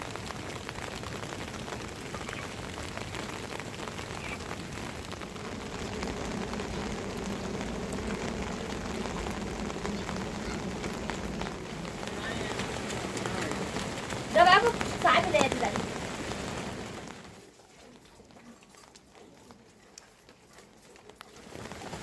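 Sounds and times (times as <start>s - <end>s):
raindrop impacts ticking: 0.0s - 19.2s, 19.9s - 22.0s
steady rain falling: 0.0s - 22.0s.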